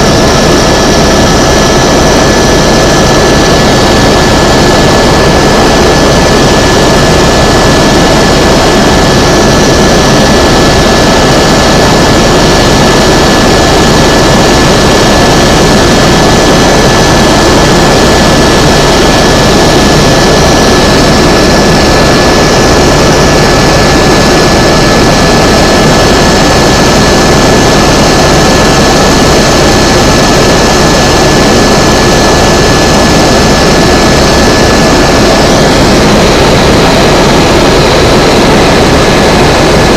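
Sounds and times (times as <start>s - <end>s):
helicopter turbine and rotor noise: 0.0s - 39.9s
high-pitched whine: 0.0s - 39.9s.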